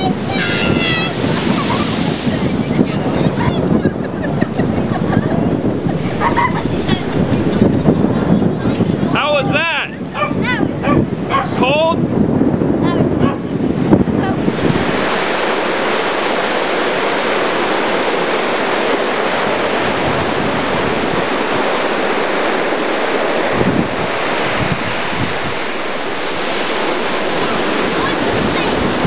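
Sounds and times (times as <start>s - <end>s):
heavy surf breaking: 0.0s - 29.0s
wind gusting on microphone: 0.0s - 29.0s.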